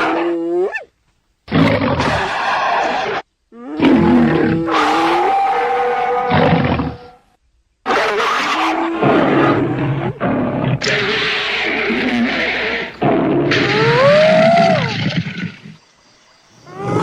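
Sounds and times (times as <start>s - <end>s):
creature roars and growls: 1.5s - 7.1s, 7.9s - 15.6s, 16.7s - 17.0s.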